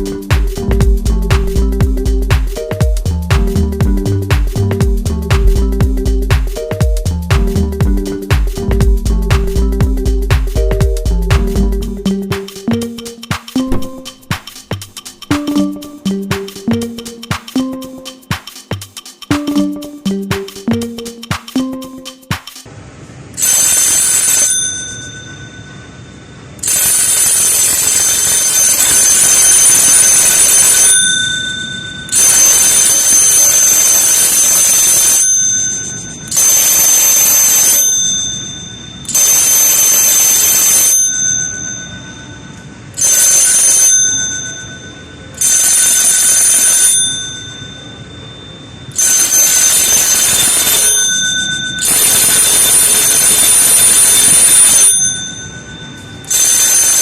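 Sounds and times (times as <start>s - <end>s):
electric alarm bell ringing: 0.0s - 22.1s, 23.4s - 57.0s.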